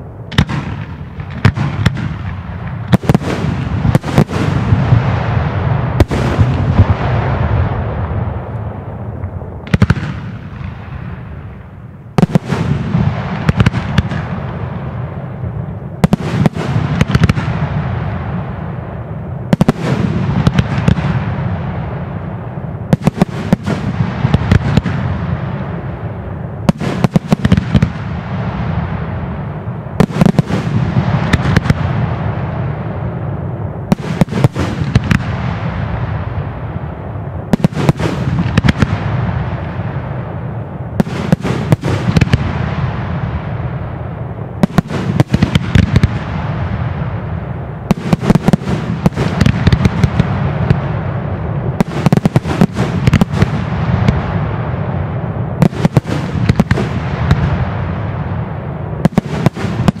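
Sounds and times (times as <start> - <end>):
fireworks bangs: 0.0 - 60.0
fireworks rumble and crackle: 0.0 - 60.0.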